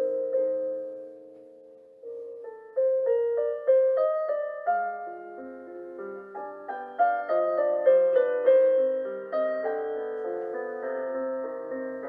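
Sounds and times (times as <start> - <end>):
calm piano music: 0.0 - 12.0.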